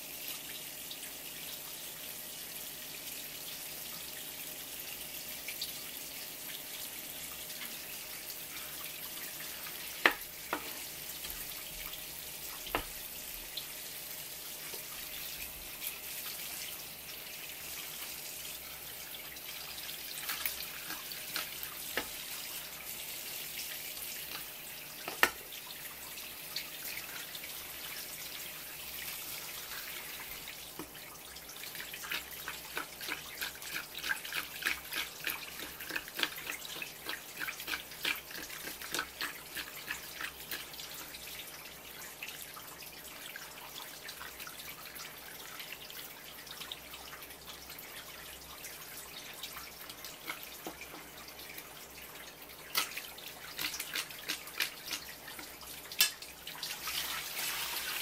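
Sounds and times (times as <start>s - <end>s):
tap water running from a hose: 0.0s - 58.0s.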